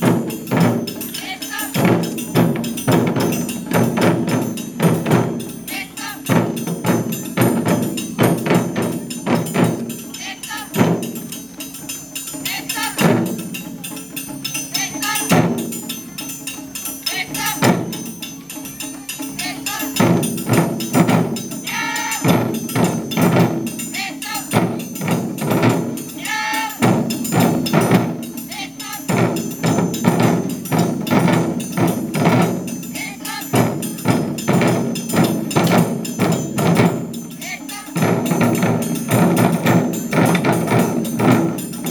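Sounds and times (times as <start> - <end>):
metallic percussion clink: 0.0 - 41.9
taiko drums: 0.0 - 41.9.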